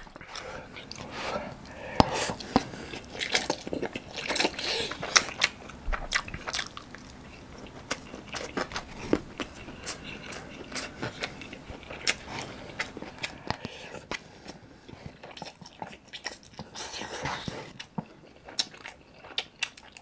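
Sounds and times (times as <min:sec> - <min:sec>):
person slurping and chewing noodles: 0:00.0 - 0:20.0.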